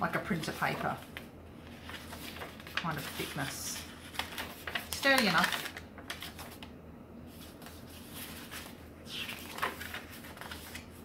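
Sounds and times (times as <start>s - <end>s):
paper pages turning: 0.3s - 6.7s, 7.3s - 11.0s.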